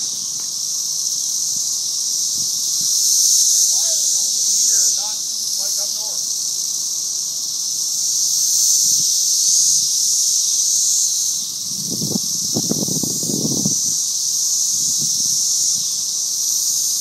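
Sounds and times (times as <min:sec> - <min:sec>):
cicadas shrill drone: 0:00.0 - 0:17.0.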